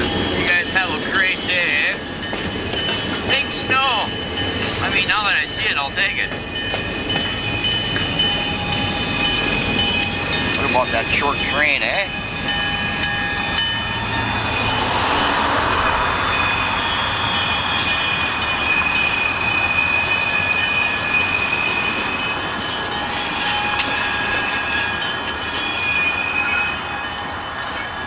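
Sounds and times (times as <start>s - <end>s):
rumble of freight cars: 0.0s - 28.0s
train wheels squealing on rail: 0.0s - 28.0s.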